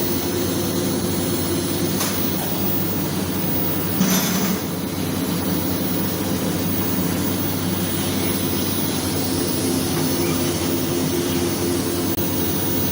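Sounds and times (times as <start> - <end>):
workshop machinery hum and hiss: 0.0 - 12.9.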